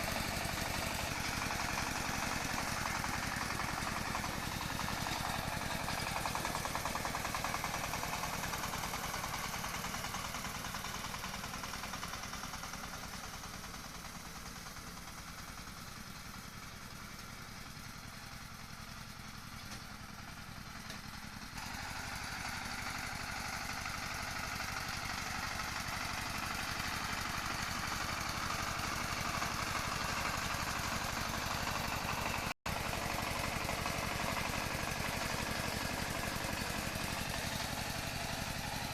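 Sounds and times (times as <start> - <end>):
farm machine engine running: 0.0 - 38.9.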